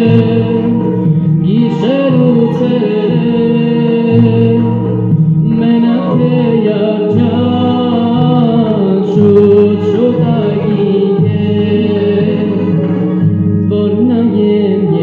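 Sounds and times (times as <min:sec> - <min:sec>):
backing track: 0:00.0 - 0:15.0
young man singing into a microphone: 0:00.0 - 0:15.0.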